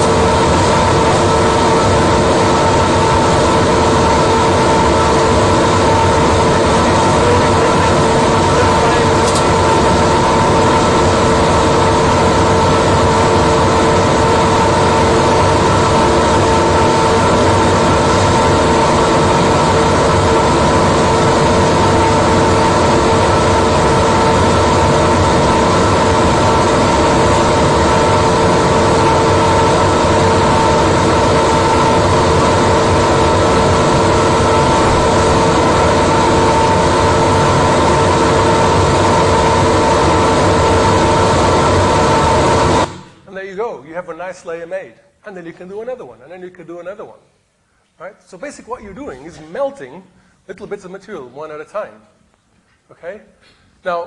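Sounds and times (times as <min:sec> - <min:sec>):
mechanical hum with tones: 0:00.0 - 0:54.0.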